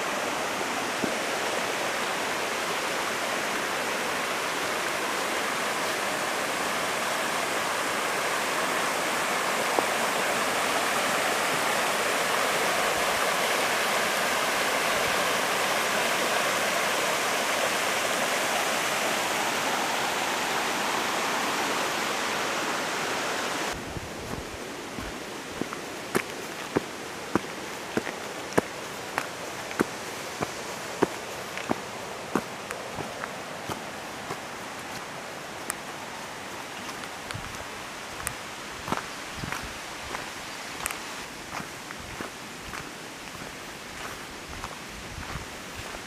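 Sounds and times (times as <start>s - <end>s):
stream flowing over rocks: 0.0s - 46.0s.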